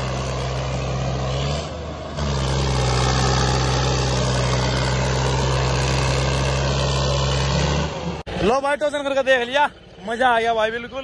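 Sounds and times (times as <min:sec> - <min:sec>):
tractor diesel engines straining: 0:00.0 - 0:11.0.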